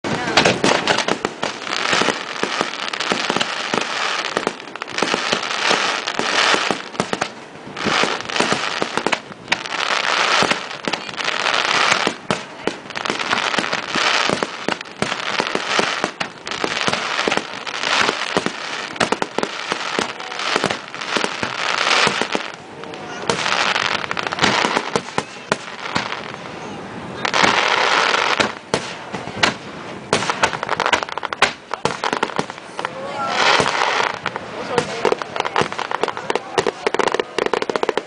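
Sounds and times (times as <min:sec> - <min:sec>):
firework bangs: 0:00.0 - 0:38.0
firework crackling: 0:00.0 - 0:38.0.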